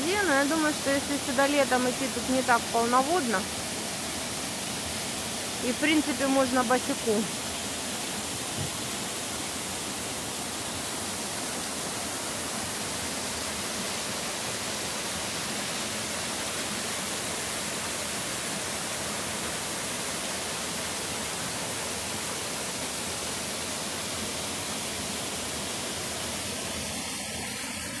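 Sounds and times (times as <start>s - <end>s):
small waterfall rushing: 0.0s - 28.0s.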